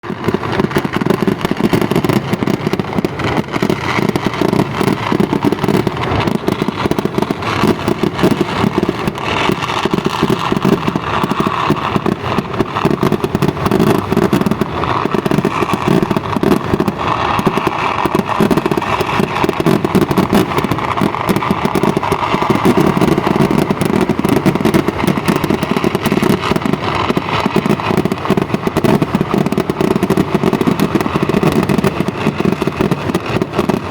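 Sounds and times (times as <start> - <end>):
firecrackers popping rapidly: 0.0 - 33.9.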